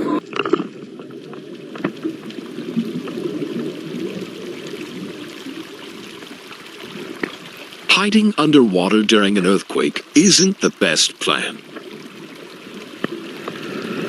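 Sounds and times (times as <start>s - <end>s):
water rushing and sloshing: 0.0s - 14.0s.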